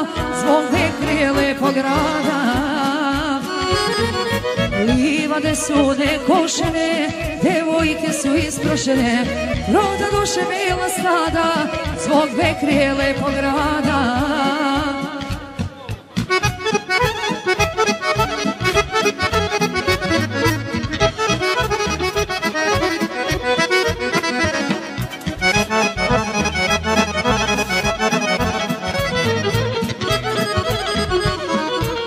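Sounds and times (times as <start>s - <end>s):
accordion folk music: 0.0s - 32.0s
bass and beat: 0.8s - 10.3s, 11.8s - 32.0s.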